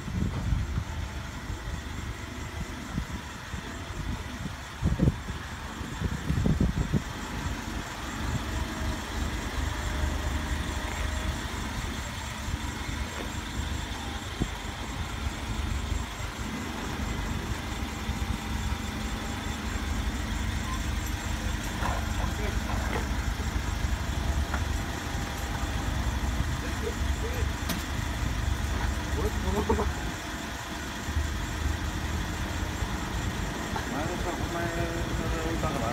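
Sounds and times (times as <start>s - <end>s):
forklift engine running: 0.0s - 35.9s.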